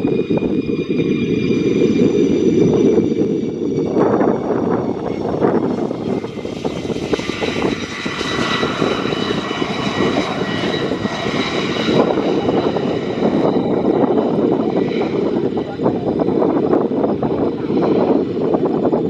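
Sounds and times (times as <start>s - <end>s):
jet engine running: 0.0s - 19.0s.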